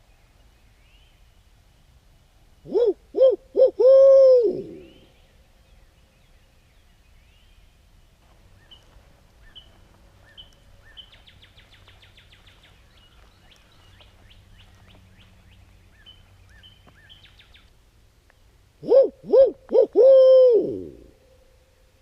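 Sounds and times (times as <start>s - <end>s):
songbirds chirping: 0.0s - 3.6s, 4.6s - 18.8s
faint low hum: 0.0s - 22.0s.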